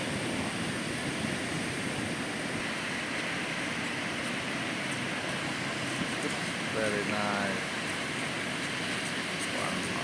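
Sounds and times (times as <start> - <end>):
ocean surf breaking on beach: 0.0 - 10.0.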